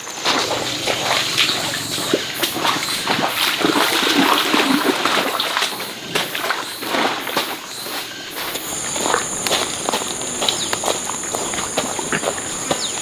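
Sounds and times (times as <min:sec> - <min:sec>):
water splashing in a stream: 0:00.0 - 0:13.0.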